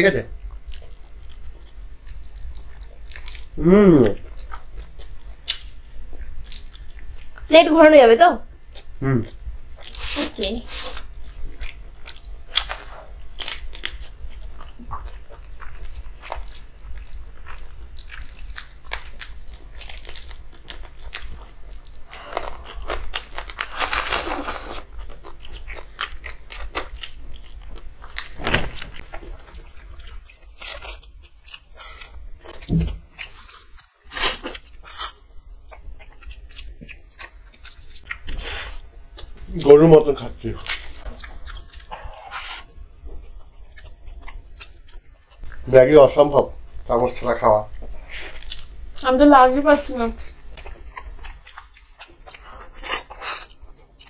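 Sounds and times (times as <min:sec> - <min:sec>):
people chewing food: 0:00.3 - 0:07.5, 0:08.5 - 0:54.0.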